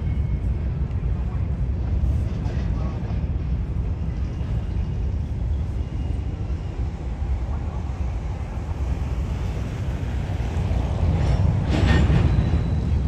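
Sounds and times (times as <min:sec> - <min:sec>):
train rumbling on tracks: 0:00.0 - 0:13.0.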